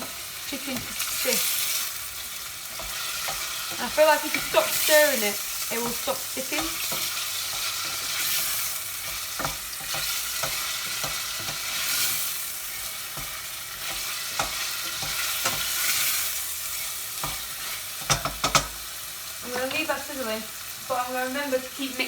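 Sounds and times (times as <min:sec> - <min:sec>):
wooden spoon scraping a pan: 0:00.0 - 0:18.8
chicken sizzling in oil: 0:00.0 - 0:22.0.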